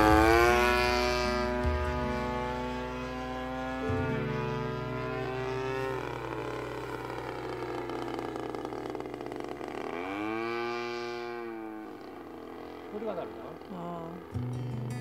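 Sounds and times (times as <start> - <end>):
model airplane engine: 0.0 - 15.0.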